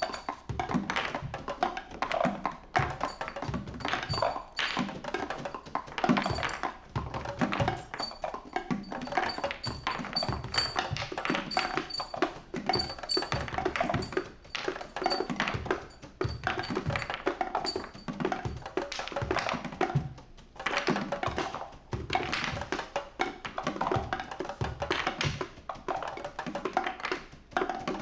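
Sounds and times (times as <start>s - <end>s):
busy drumming: 0.0s - 28.0s.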